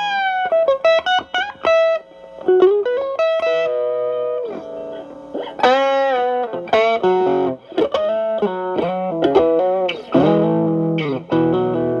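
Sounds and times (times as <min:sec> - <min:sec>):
overdriven electric guitar lead: 0:00.0 - 0:12.0.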